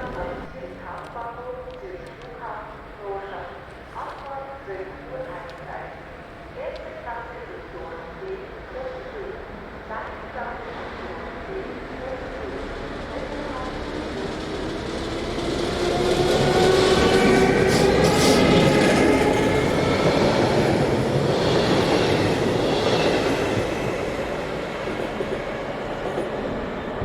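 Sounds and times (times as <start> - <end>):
train passing on rails: 0.0 - 27.0.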